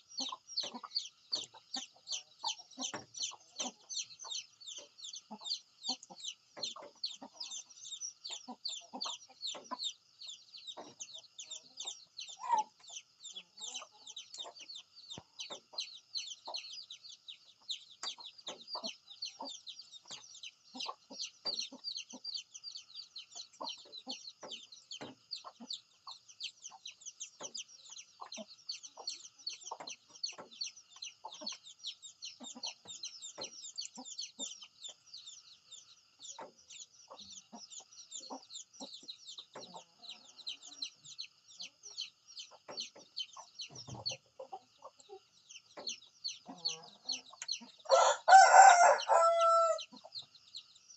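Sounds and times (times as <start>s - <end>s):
high-pitched chirping: 0.0s - 50.6s
chickens clucking: 0.0s - 50.9s.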